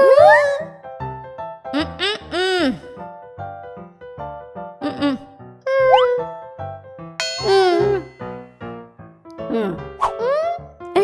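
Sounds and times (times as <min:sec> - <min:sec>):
light cartoon background music: 0:00.0 - 0:11.0.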